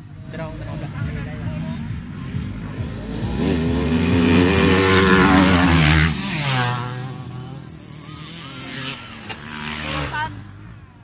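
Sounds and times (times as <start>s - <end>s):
motorcycle passing at high revs: 0.0s - 11.0s.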